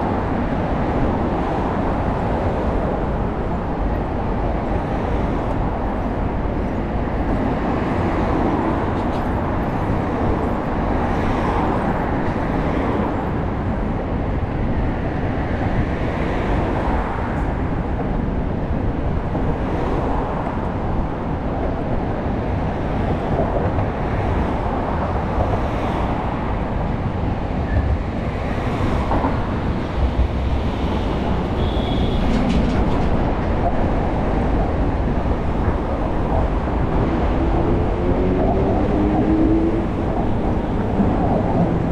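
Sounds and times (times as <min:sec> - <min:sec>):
city traffic noise: 0:00.0 - 0:41.9
wind rush: 0:00.0 - 0:41.9.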